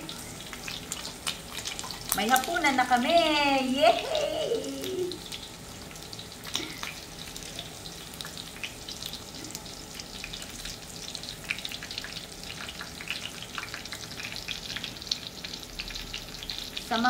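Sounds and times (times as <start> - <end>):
pork sizzling and popping: 0.0 - 17.0.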